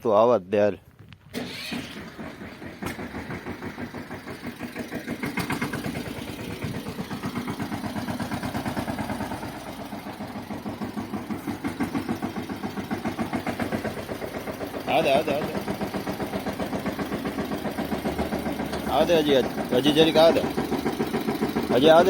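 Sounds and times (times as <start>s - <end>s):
tractor engine running: 1.0s - 22.0s.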